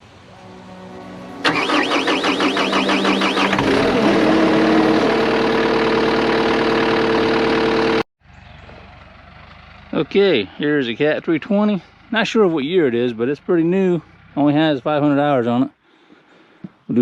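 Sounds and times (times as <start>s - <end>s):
diesel engine cranking and running: 1.4s - 15.3s.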